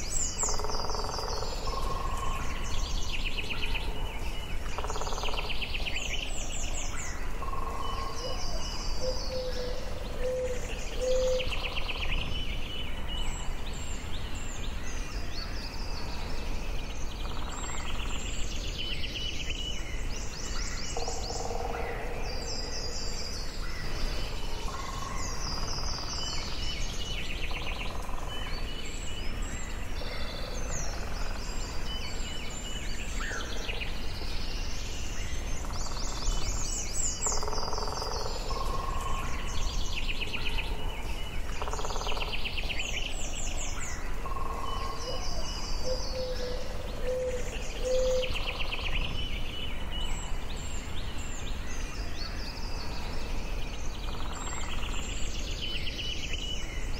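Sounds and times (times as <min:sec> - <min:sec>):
birds singing: 0:00.0 - 0:56.9
low background noise: 0:00.0 - 0:56.9.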